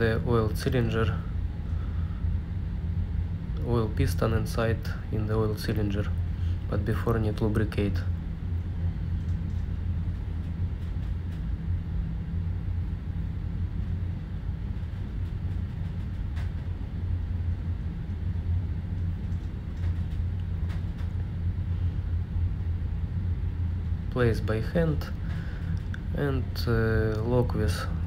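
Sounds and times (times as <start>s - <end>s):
engine-room machinery drone: 0.0s - 28.0s.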